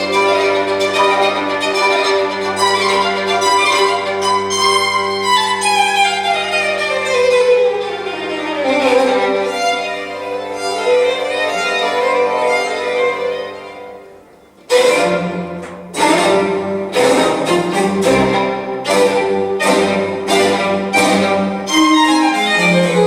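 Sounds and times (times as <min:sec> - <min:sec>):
violin music over loudspeakers: 0:00.0 - 0:23.0.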